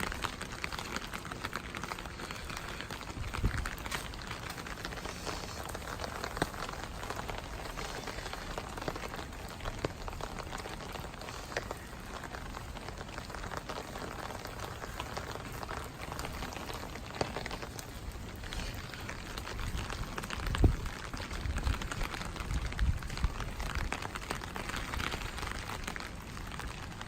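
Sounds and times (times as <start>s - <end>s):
raindrops tapping close by: 0.0s - 27.0s
steady rainfall: 0.0s - 27.0s.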